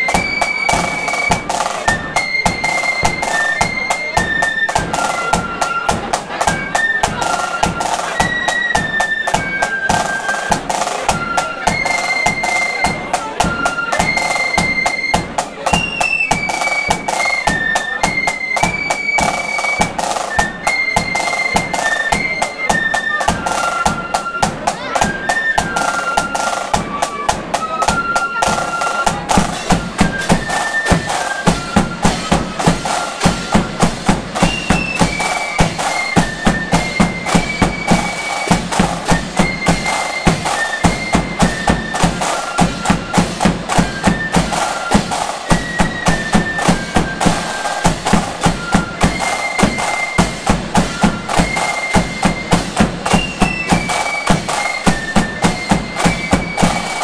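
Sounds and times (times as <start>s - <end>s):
flutes playing march melody: 0.0s - 57.0s
snare drums: 0.0s - 57.0s.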